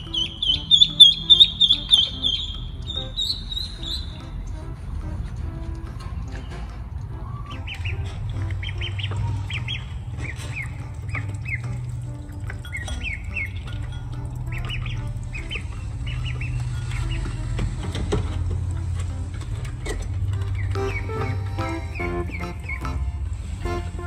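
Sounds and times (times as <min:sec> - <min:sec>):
ducklings peeping: 0:00.0 - 0:04.8, 0:06.2 - 0:19.8, 0:20.4 - 0:24.0
low steady hum: 0:00.0 - 0:24.0.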